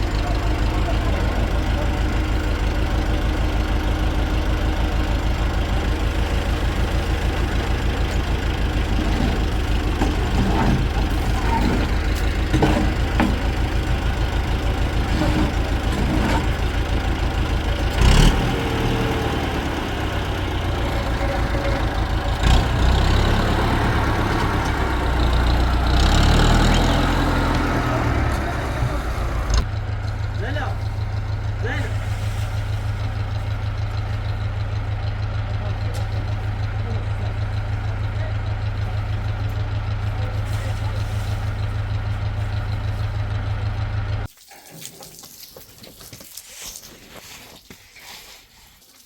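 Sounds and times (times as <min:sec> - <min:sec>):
engine idling: 0:00.0 - 0:44.3
engine knocking: 0:00.0 - 0:44.3.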